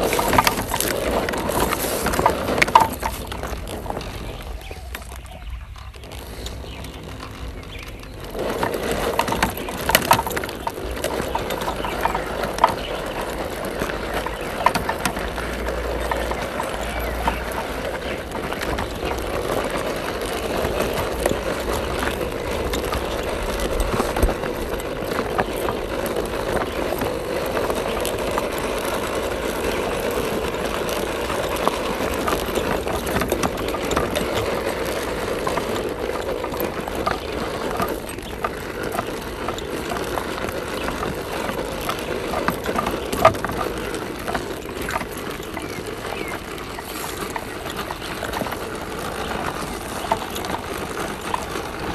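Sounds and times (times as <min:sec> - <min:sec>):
tyres clicking over mud clods: 0:00.0 - 0:51.9.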